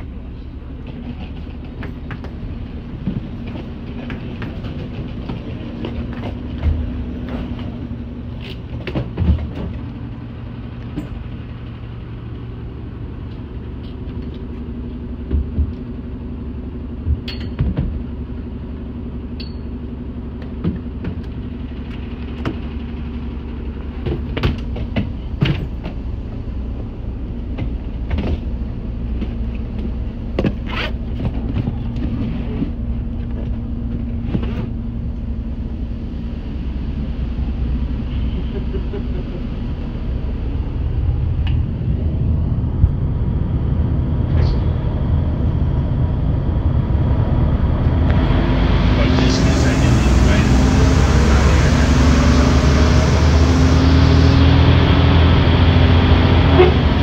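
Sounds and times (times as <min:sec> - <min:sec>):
bus idling hum: 0:00.0 - 0:57.0.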